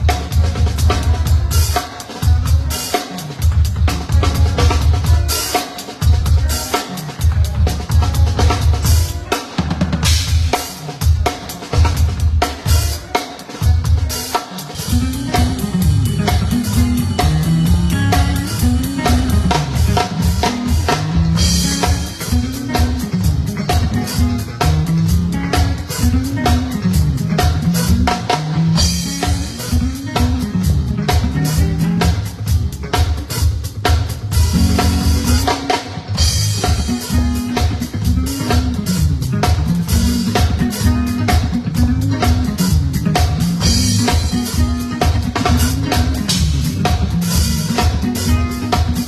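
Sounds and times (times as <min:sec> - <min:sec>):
bass line: 0:00.0 - 0:49.0
drum kit groove: 0:00.0 - 0:49.0.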